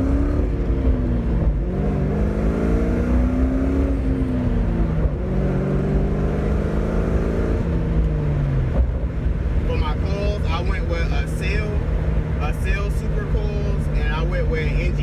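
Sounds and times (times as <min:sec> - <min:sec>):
car exhaust drone while driving: 0:00.0 - 0:15.0.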